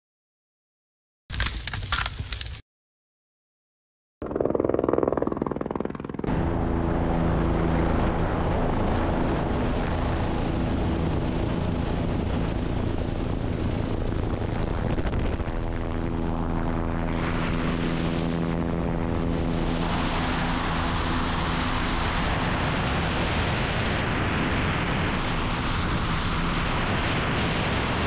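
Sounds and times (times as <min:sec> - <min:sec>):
helicopter rotor and turbine engine: 0:04.2 - 0:28.0.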